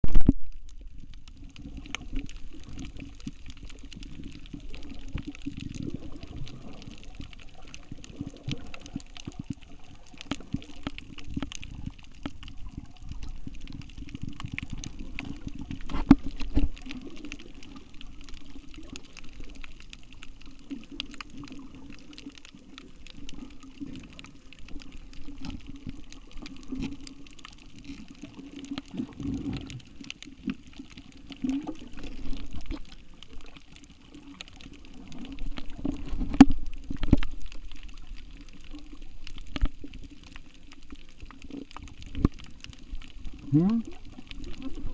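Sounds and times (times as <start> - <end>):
muffled underwater water rumble: 0.0 - 44.9
small underwater clicks and crackles: 0.0 - 44.9.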